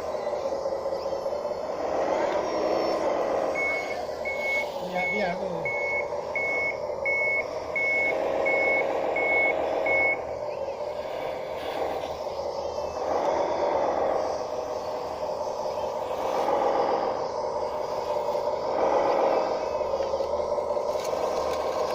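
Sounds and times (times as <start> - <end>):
reversing beeper: 0.0 - 17.6
bulldozer engine running: 0.0 - 21.9.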